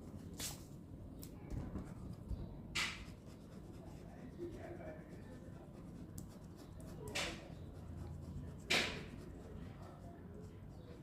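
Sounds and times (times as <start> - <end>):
ballpoint pen scratching paper: 1.8 - 11.0.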